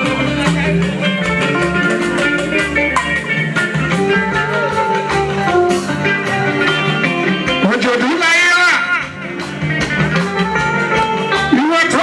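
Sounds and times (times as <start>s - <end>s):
guitar: 0.0s - 12.0s
percussion steady beat: 0.0s - 12.0s.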